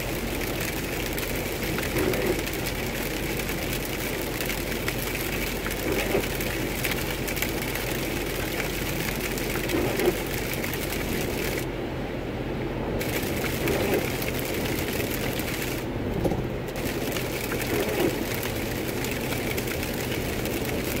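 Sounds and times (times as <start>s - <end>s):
rain ticking on car: 0.0s - 11.7s, 13.0s - 21.0s
car engine and tyre noise: 0.0s - 21.0s.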